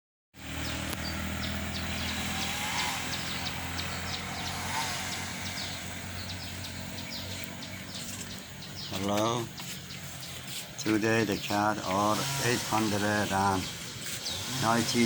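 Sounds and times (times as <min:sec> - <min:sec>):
low motor hum: 0:00.4 - 0:15.0
rising-and-falling bird calls: 0:00.4 - 0:15.0
bird chirps: 0:00.5 - 0:15.0.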